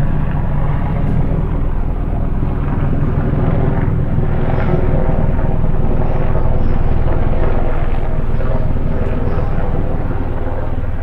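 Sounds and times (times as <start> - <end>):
aircraft engine and rotor drone: 0.0 - 11.0.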